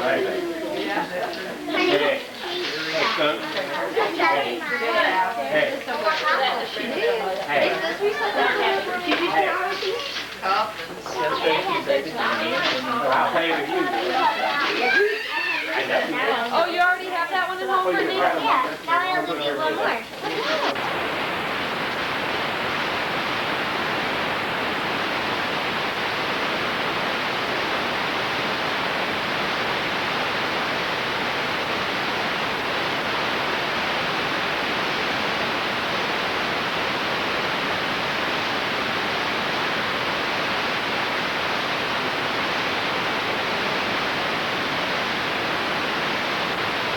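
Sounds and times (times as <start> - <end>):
videotape static hiss: 0.0 - 46.9.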